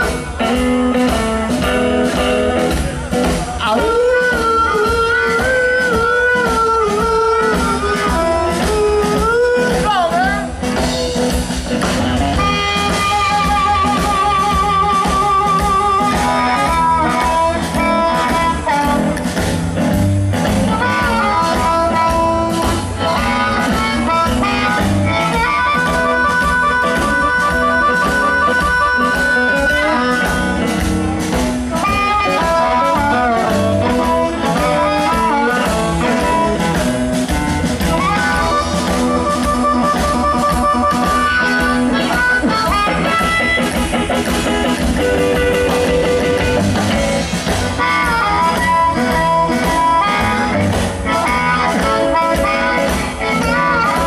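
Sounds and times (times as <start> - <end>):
drums: 0.0 - 54.0
electric guitar: 0.0 - 54.0
upright bass: 0.0 - 54.0
amplified harmonica: 3.7 - 54.0.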